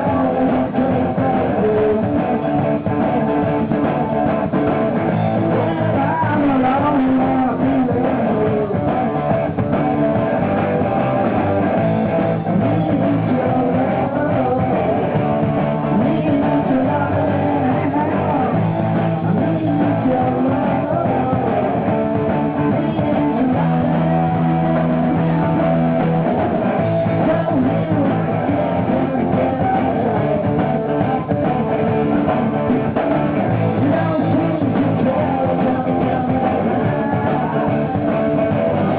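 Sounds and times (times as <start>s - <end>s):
electric guitar: 0.0s - 38.9s
rock band playing live: 0.0s - 38.9s
steady bass line: 0.0s - 38.9s.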